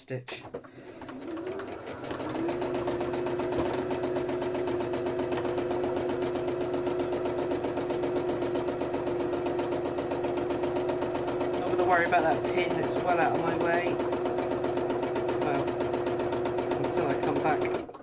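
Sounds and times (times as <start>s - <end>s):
sewing machine stitching: 0.6s - 18.0s.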